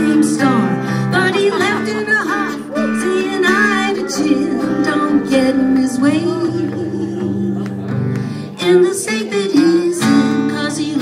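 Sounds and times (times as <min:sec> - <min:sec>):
acoustic guitar: 0:00.0 - 0:11.0
woman singing: 0:00.0 - 0:11.0.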